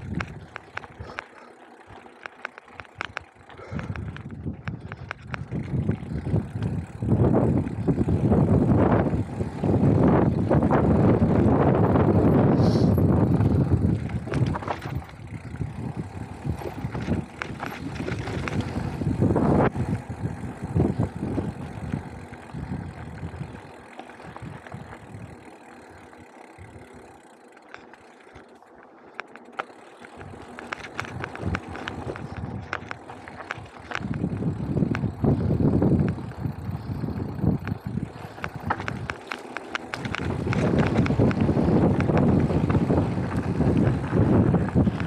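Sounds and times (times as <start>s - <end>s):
bike clicking and rattling: 0.0s - 45.0s
bike tyres rumbling on dirt: 0.0s - 45.0s.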